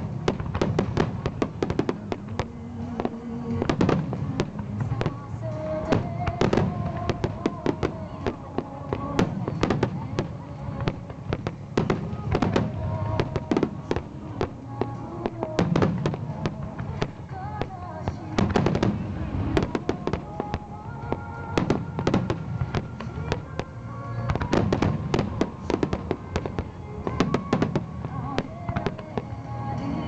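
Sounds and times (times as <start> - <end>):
music playing: 0.0 - 30.0.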